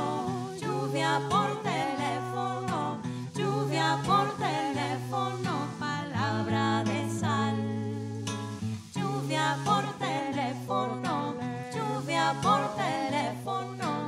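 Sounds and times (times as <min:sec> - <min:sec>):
women singing in harmony: 0:00.0 - 0:14.0.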